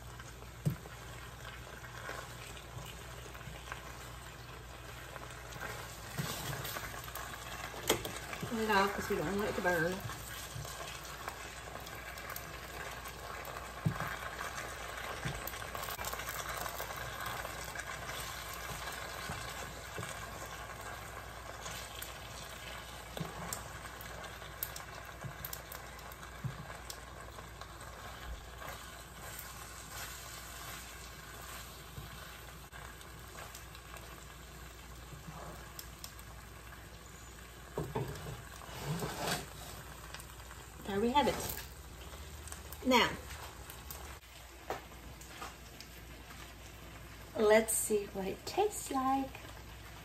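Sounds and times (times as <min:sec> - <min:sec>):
pasta sizzling in a frying pan: 0:00.0 - 0:50.0.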